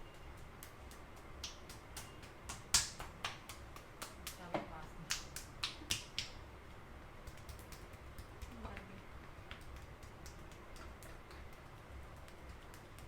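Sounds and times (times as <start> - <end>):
fingers crackling through hair: 0.0 - 6.4, 7.2 - 13.0.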